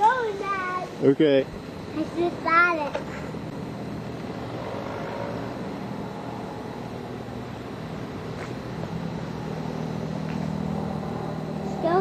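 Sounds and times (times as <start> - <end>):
engine hum: 0.0 - 12.0
road traffic rumble: 0.0 - 12.0.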